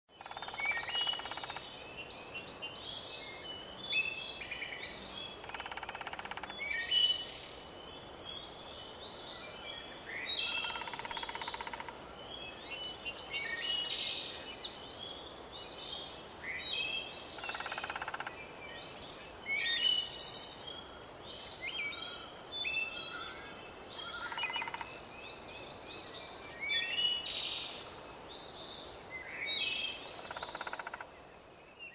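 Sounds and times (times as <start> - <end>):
birds singing and chirping: 0.1 - 31.9
faint background hiss: 0.1 - 31.9.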